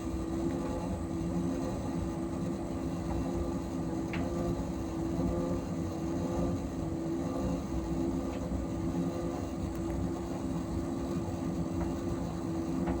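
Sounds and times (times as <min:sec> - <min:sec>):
tumble dryer humming and rumbling: 0:00.0 - 0:13.0.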